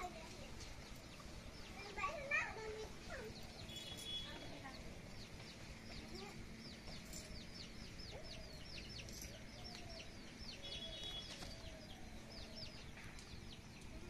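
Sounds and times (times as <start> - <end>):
birds chirping: 0.0 - 14.0
fainter lower bird calls: 0.0 - 14.0.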